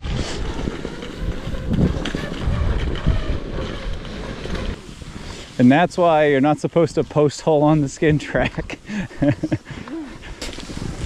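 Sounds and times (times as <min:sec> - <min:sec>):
skis and boots crunching snow: 0:00.0 - 0:11.0
wind rumbling on microphone: 0:00.0 - 0:11.0.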